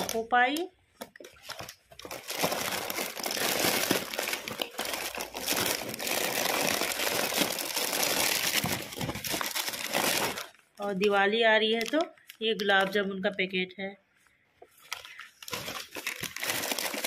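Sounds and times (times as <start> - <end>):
plastic wrappers crinkling: 0.0 - 13.5, 14.7 - 17.0.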